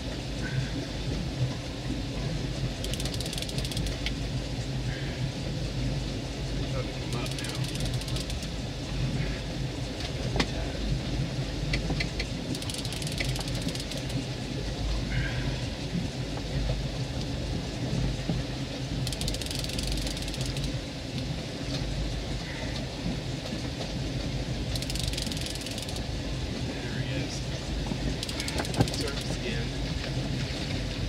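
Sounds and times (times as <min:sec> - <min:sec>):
boat motor running: 0:00.0 - 0:31.0
water noise: 0:00.0 - 0:31.0
wind: 0:00.0 - 0:31.0.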